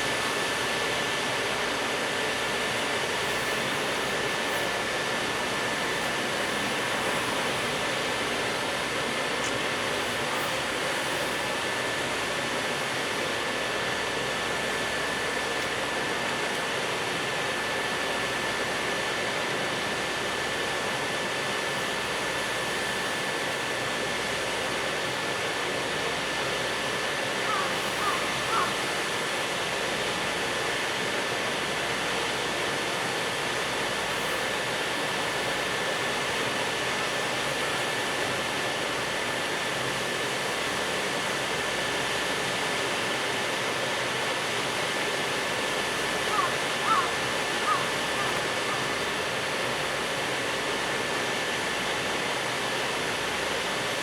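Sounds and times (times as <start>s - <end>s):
freight train running: 0.0s - 54.0s.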